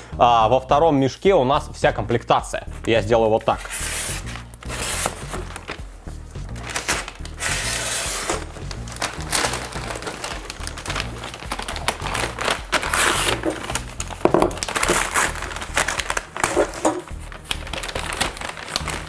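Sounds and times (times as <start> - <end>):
background music with bass line: 0.0 - 19.0
paper bag rustling and crinkling: 3.5 - 19.0.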